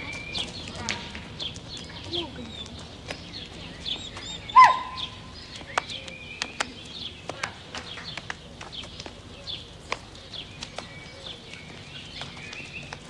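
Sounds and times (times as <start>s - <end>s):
birds chirping: 0.0s - 13.0s
footsteps on pavement: 0.0s - 13.0s.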